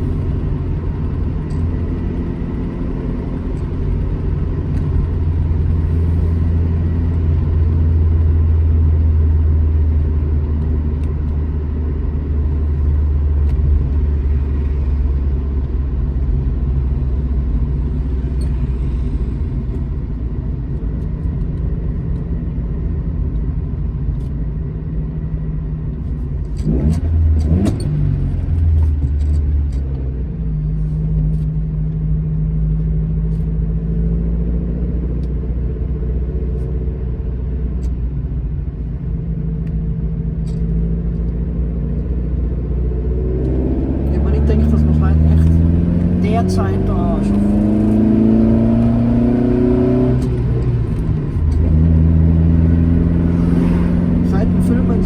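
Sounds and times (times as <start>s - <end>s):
car engine droning and revving: 0.0s - 55.0s.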